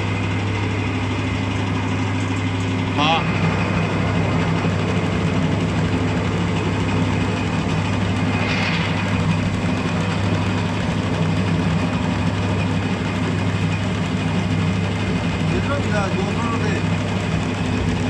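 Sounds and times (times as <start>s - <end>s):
test bench pump humming: 0.0s - 18.0s.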